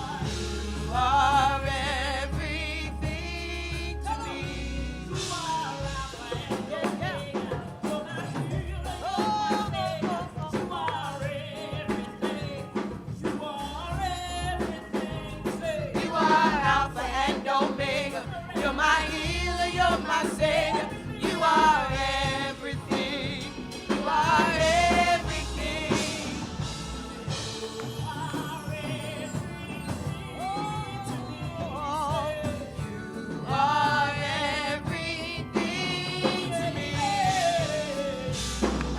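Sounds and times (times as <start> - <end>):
band with steady bass line: 0.0 - 38.9
voices singing gospel: 0.0 - 38.9.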